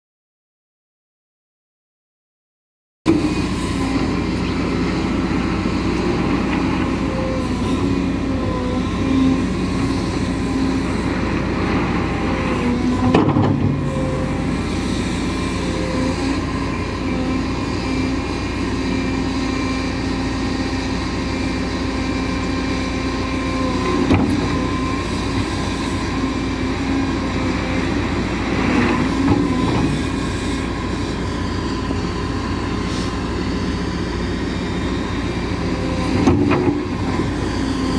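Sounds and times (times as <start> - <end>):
excavator diesel engine and hydraulics: 3.1 - 37.9.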